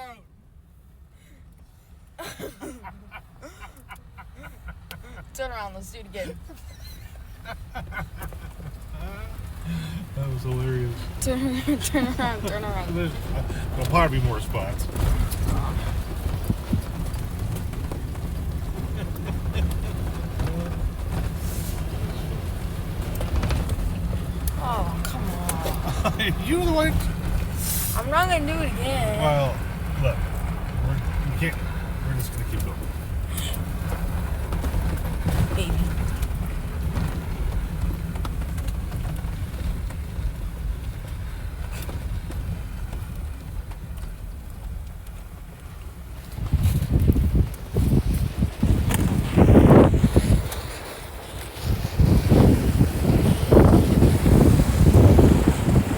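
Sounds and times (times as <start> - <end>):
vehicle engine and road rumble: 0.0 - 55.9.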